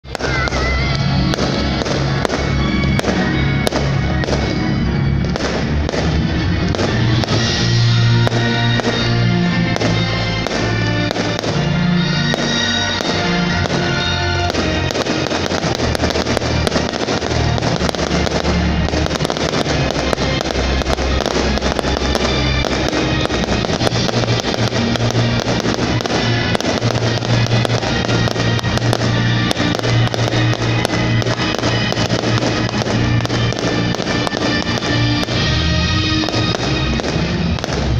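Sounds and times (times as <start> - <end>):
fireworks bangs and crackles: 0.0 - 37.9.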